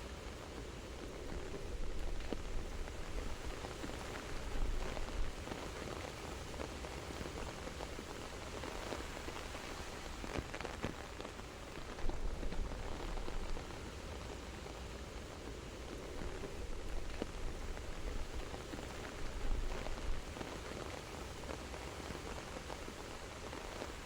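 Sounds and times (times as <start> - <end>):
soft rain falling: 0.0 - 24.0.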